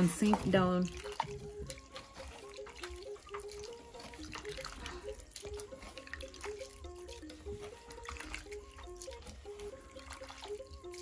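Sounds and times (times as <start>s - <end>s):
hands sloshing in water: 0.0s - 11.0s
soft background music: 0.0s - 11.0s.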